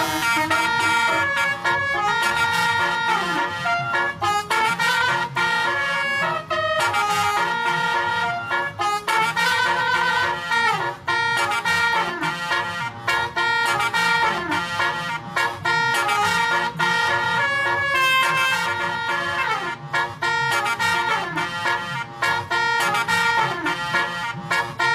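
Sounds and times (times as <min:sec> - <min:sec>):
musical air horn playing a tune: 0:00.0 - 0:24.9.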